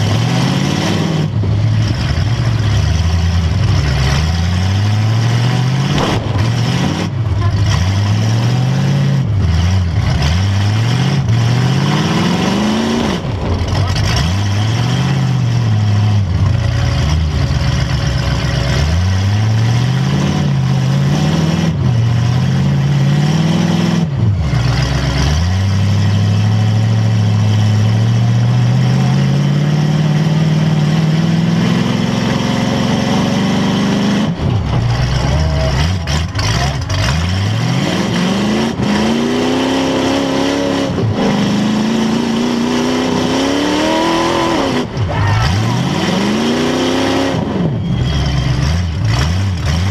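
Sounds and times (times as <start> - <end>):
car engine revving hard: 0.0 - 49.9.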